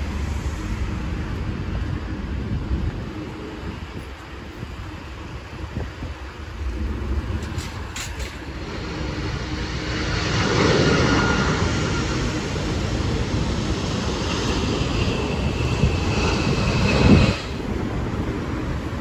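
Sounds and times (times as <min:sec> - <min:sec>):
jet airliner roaring overhead: 0:00.0 - 0:19.0
traffic on a wet road: 0:00.0 - 0:19.0.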